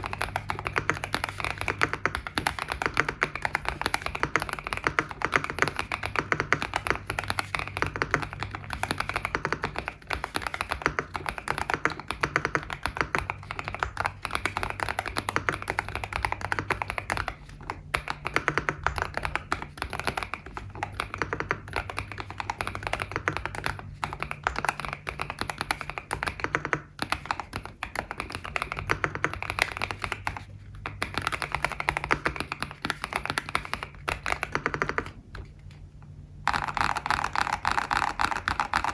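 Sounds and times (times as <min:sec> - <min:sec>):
mechanical keyboard typing: 0:00.0 - 0:35.6, 0:36.4 - 0:38.9.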